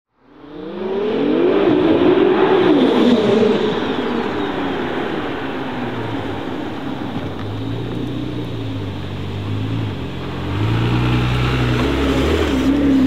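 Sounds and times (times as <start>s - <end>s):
car engine accelerating: 0.4s - 13.0s.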